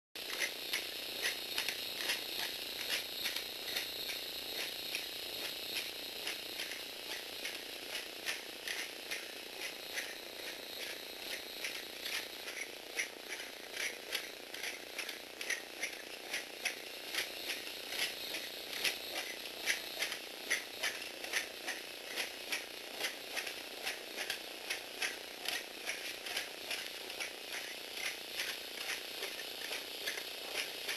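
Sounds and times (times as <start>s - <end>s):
toy motor whining and clicking: 0.2s - 30.9s.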